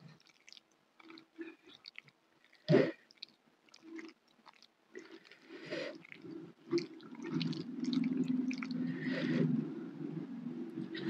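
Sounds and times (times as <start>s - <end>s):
wet squishing of mixed food: 0.0s - 9.1s.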